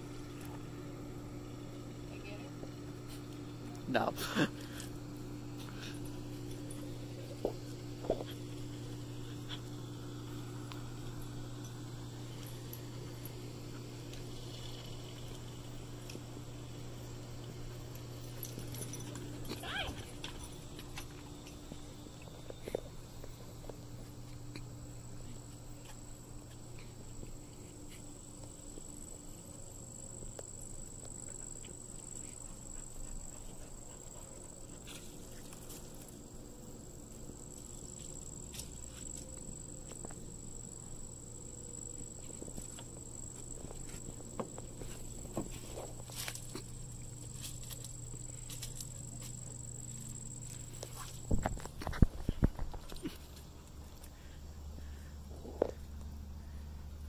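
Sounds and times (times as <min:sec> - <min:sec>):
steady high-pitched whine: 0:00.0 - 0:57.0
steady low hum: 0:00.0 - 0:57.0.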